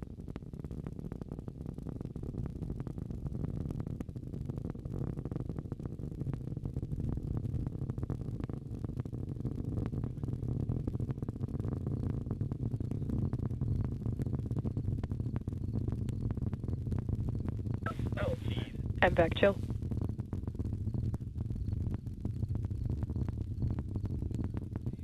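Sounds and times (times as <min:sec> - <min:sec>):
rocket engines rumbling and crackling: 0:00.0 - 0:25.0.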